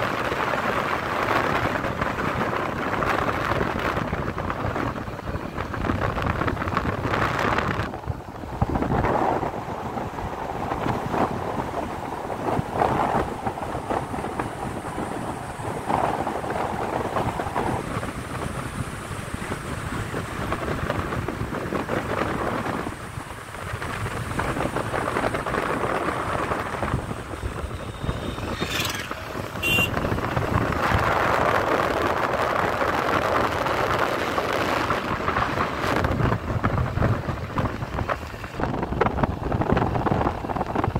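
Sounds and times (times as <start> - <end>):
vehicle road noise: 0.0 - 40.9
wind buffeting microphone: 0.0 - 40.9.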